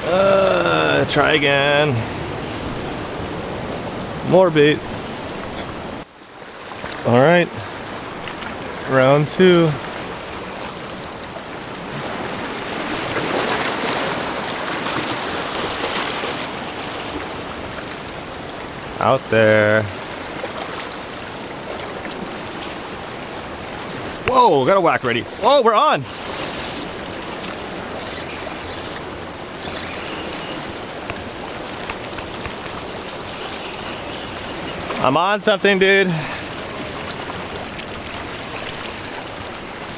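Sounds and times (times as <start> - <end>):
ocean surf on rocks: 0.0 - 39.9.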